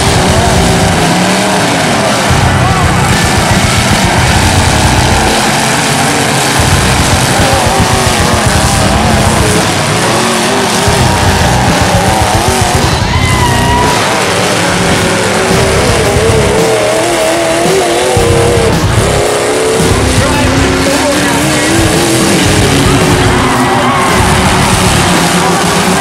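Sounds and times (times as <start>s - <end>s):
truck engines revving: 0.0s - 26.0s.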